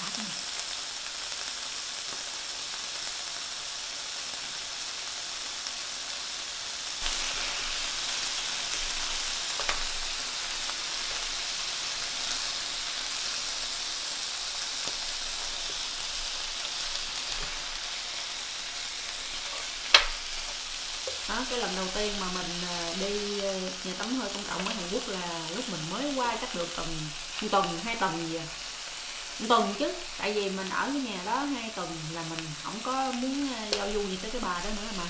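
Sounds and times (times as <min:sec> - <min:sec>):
meat sizzling on grill pan: 0:00.0 - 0:35.0.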